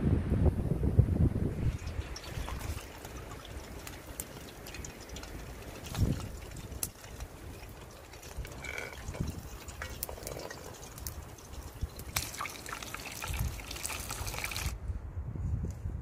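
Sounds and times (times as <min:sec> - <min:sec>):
oil sizzling and bubbling: 0:01.4 - 0:14.8.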